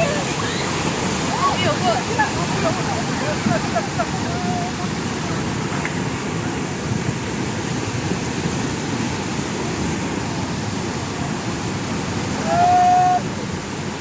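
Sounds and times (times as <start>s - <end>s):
creek water roaring: 0.0s - 14.0s.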